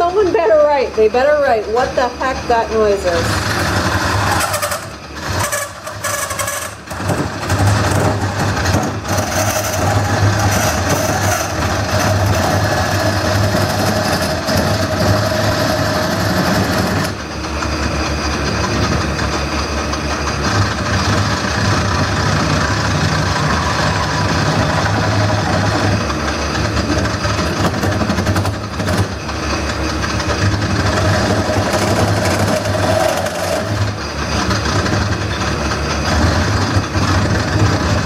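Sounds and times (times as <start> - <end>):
lathe motor hum: 0.0 - 38.0.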